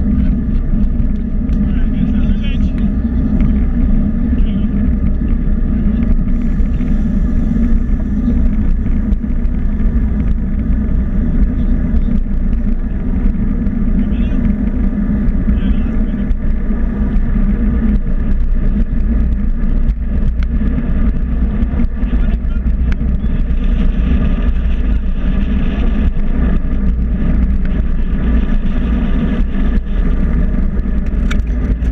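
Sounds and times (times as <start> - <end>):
wind and road noise rumble: 0.0 - 31.9.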